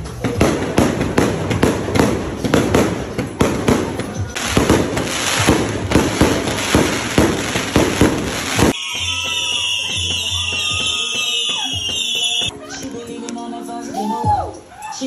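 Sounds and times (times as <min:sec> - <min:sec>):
fireworks bangs and crackling: 0:00.0 - 0:12.5
background music: 0:00.0 - 0:15.0.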